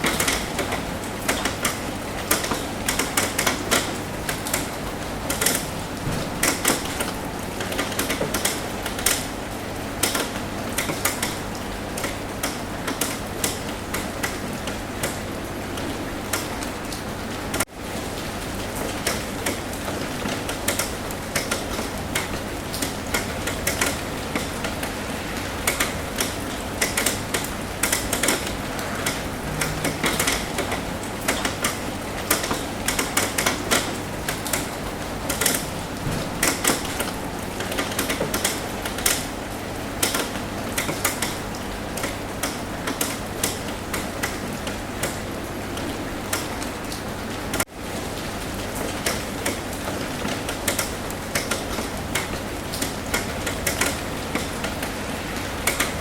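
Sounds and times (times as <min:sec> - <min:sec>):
rain hissing: 0:00.0 - 0:56.0
raindrops tapping on roof: 0:00.0 - 0:56.0.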